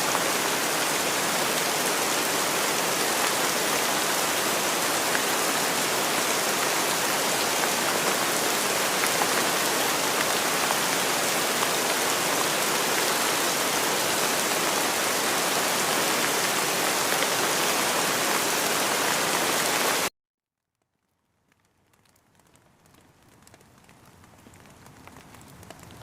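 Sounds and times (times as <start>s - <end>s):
steady rain falling: 0.0s - 20.1s, 20.8s - 26.0s.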